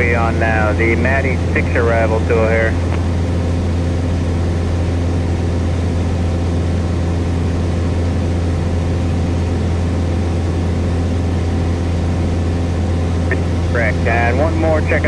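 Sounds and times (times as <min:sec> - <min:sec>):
airplane engine and propeller droning: 0:00.0 - 0:15.0.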